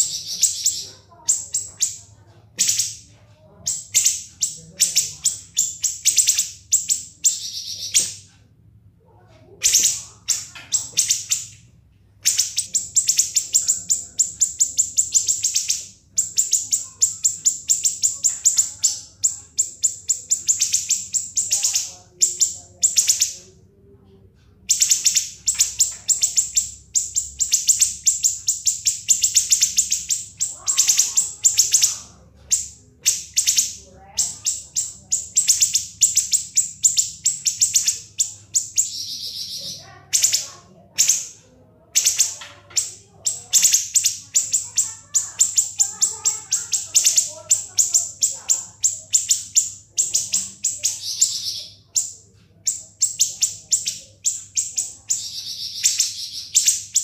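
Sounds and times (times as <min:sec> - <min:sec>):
bird singing shrill trill: 0:00.0 - 0:02.0, 0:03.6 - 0:08.3, 0:09.6 - 0:11.6, 0:12.2 - 0:23.4, 0:24.7 - 0:41.4, 0:42.0 - 0:57.0.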